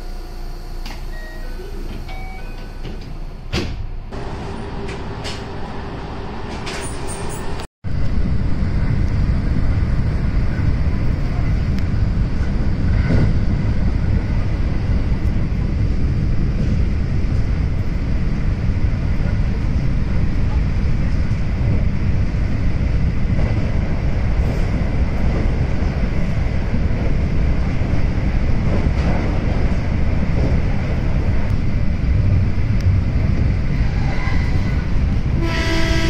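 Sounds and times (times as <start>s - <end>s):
train rumbling inside carriage: 0.0s - 36.0s.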